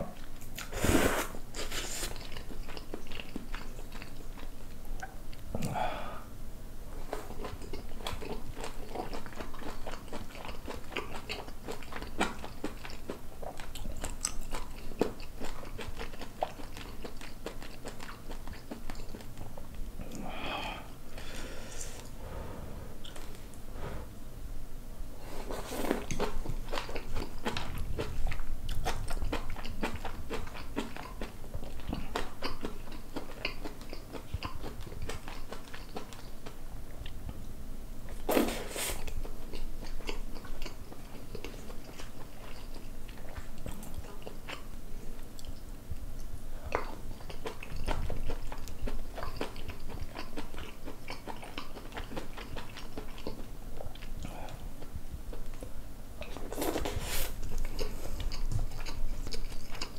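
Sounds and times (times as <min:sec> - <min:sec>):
wet chewing with crunches: 0:01.5 - 0:05.7, 0:07.0 - 0:20.2, 0:25.3 - 0:37.4, 0:38.1 - 0:59.9.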